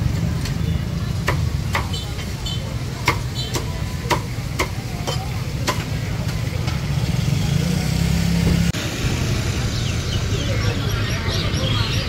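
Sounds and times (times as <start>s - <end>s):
low rumble of market: 0.0s - 12.0s.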